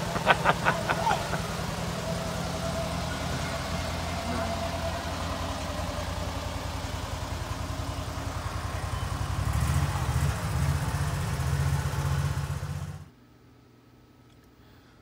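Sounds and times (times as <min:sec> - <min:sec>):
small vehicle engine humming: 0:00.0 - 0:13.2.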